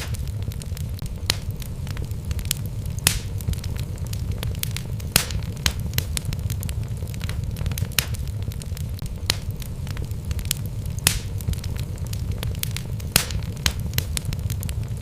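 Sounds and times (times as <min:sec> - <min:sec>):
fire rumbling in fireplace: 0:00.0 - 0:15.0
logs crackling and popping: 0:00.0 - 0:15.0
loud wood snaps: 0:00.0 - 0:15.0.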